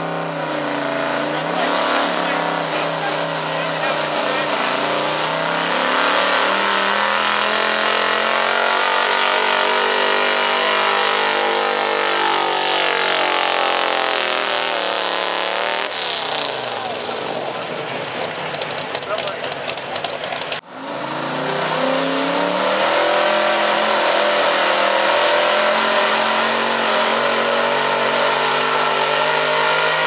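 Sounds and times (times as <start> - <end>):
truck engine revving at full throttle: 0.0 - 30.0.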